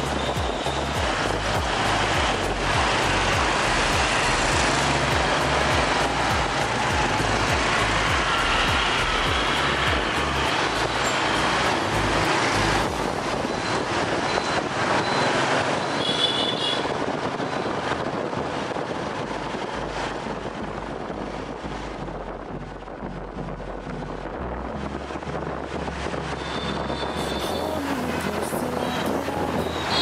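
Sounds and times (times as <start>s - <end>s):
scooter engines and road noise: 0.0s - 30.0s.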